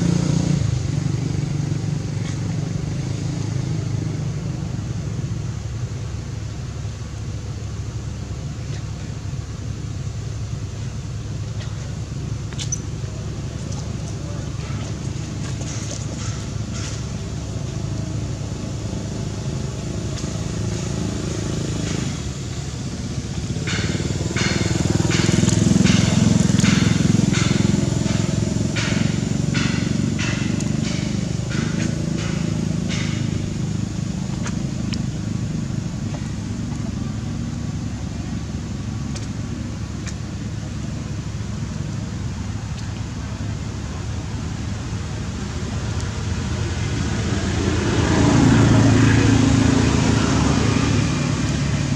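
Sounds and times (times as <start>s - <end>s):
motor engine running: 0.0s - 51.9s.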